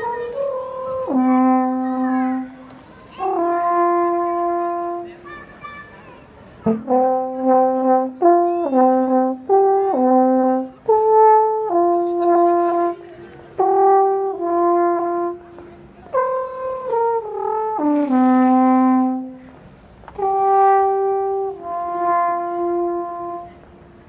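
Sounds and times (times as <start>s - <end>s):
alphorn melody: 0.0s - 5.3s, 6.6s - 24.0s.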